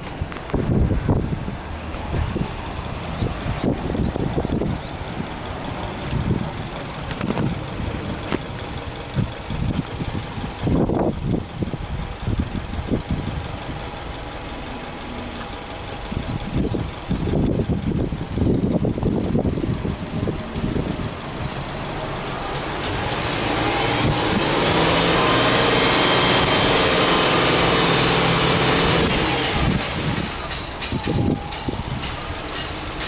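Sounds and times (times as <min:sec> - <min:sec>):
wind buffeting microphone: 0:00.0 - 0:14.6, 0:16.0 - 0:26.7, 0:27.9 - 0:33.0
car engine idling: 0:00.0 - 0:33.0.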